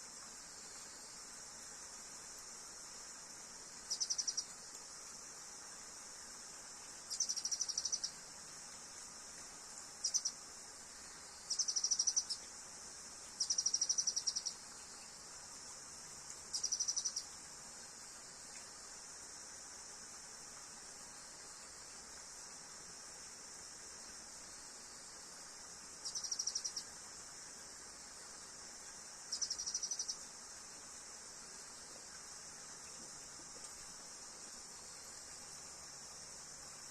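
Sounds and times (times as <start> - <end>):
insect chorus drone: 0.0 - 36.9.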